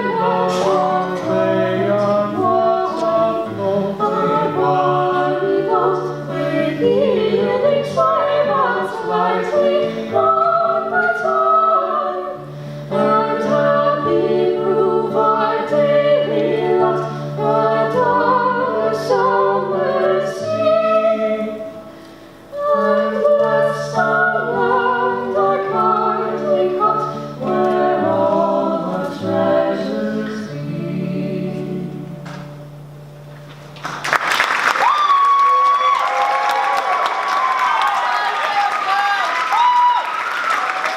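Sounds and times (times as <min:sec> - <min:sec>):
ensemble singing with vibrato: 0:00.0 - 0:32.9.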